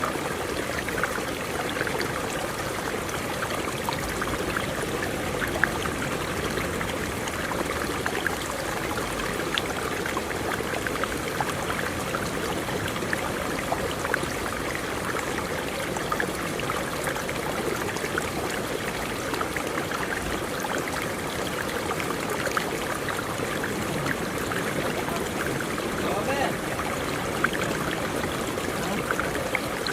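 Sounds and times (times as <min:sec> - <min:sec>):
flowing water: 0:00.0 - 0:29.9
small ticks from water: 0:00.0 - 0:29.9.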